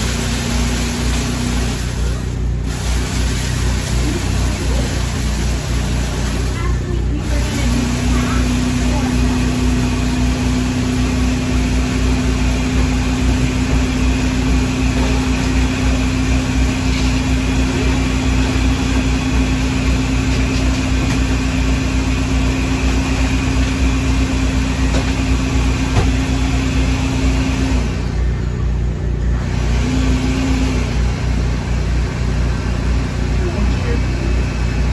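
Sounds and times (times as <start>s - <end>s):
machine hum: 0.0s - 34.9s.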